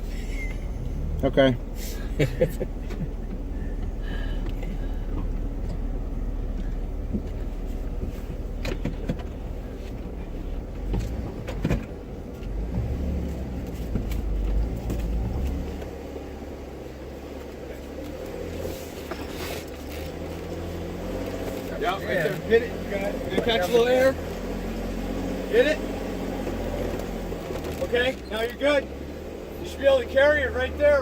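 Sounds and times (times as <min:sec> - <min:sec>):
off-road vehicle engine: 0:00.0 - 0:31.0.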